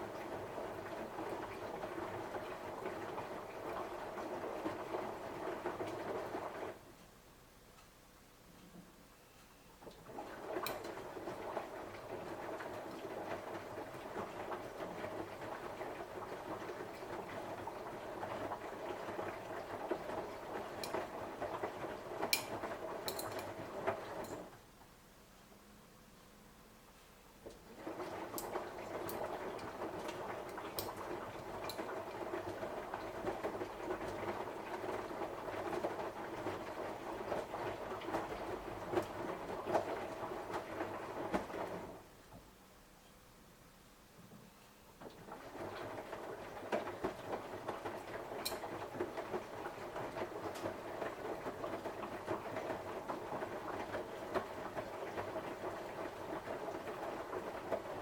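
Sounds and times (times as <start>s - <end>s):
washing machine drum churning: 0.0s - 6.9s, 9.8s - 24.6s, 27.4s - 42.2s, 45.0s - 58.0s.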